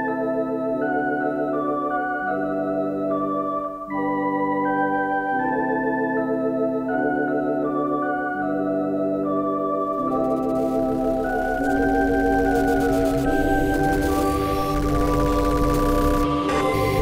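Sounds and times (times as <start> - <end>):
electronic organ chords with tremolo: 0.0 - 17.0.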